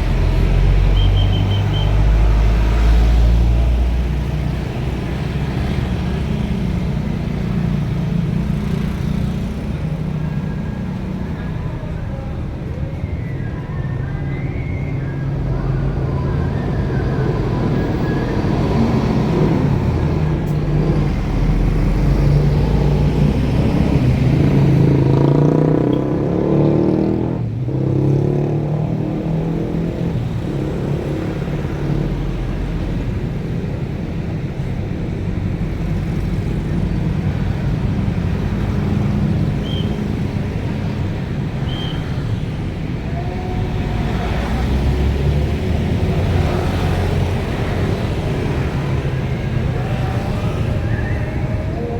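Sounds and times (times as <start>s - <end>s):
bus engines passing by: 0.0s - 51.9s.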